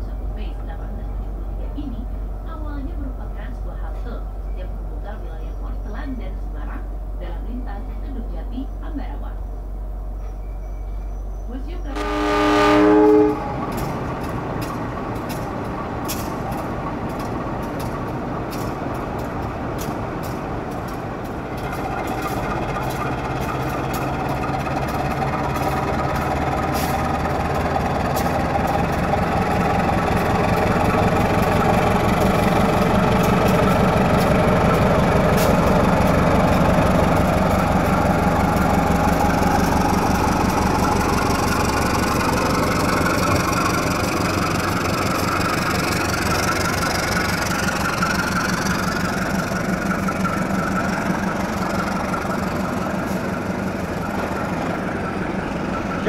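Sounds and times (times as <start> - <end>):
locomotive engine drone: 0.0 - 56.0
train wheels rumbling: 0.0 - 56.0.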